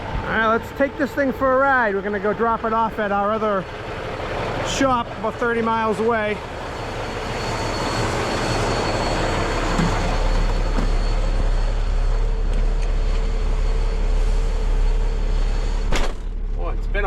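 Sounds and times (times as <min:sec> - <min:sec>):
diesel truck engine pulling away: 0:00.0 - 0:17.0.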